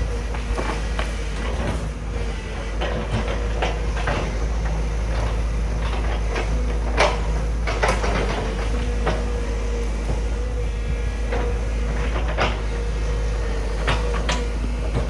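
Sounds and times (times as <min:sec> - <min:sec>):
excavator diesel drone: 0:00.0 - 0:15.0.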